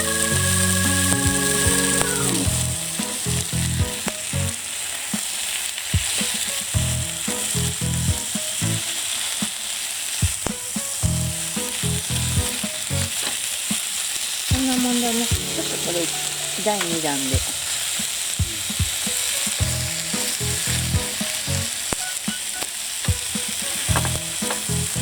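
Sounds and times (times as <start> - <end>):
food sizzling on griddle: 0.0 - 25.0.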